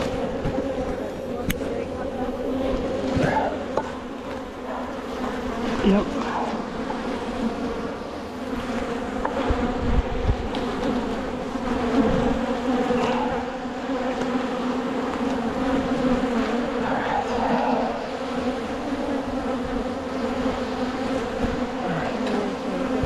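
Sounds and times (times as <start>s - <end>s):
bees buzzing loudly: 0.0s - 23.0s.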